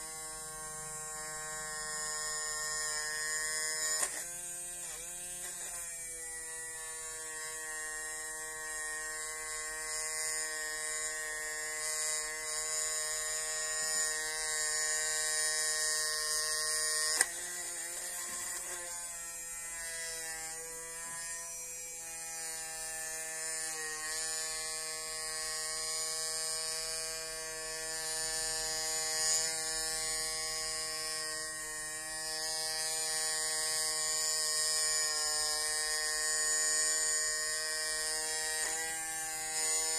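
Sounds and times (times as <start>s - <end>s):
mini drill motor whining: 0.0s - 39.9s.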